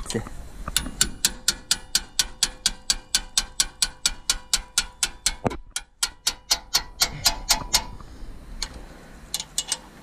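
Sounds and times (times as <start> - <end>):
ratchet wrench clicking: 0.8 - 8.0, 8.6 - 9.9.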